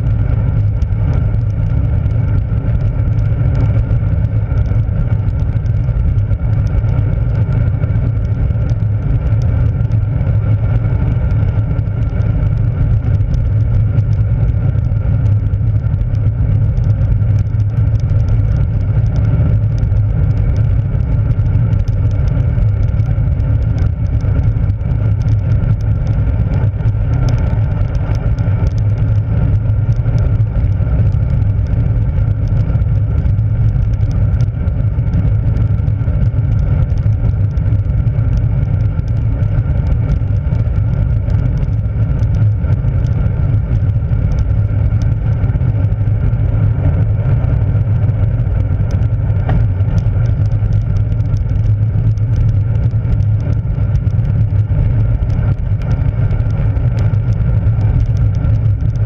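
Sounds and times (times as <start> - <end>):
bike tyre rumble on road: 0.0 - 59.0
faint steady hum: 0.0 - 59.0
wind rush on microphone: 0.0 - 59.0.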